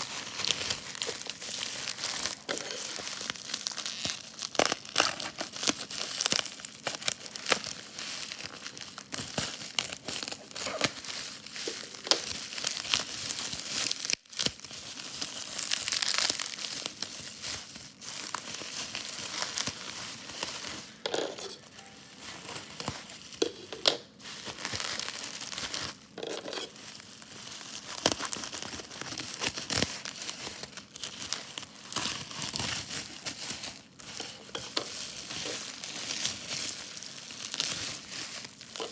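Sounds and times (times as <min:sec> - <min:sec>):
packaging crinkling and tearing: 0:00.0 - 0:38.9.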